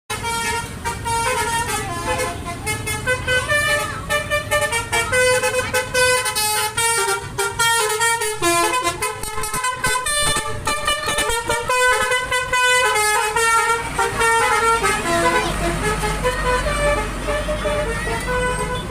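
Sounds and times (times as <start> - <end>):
musical air horn melody: 0.1 - 18.9
low engine rumble: 0.2 - 18.9.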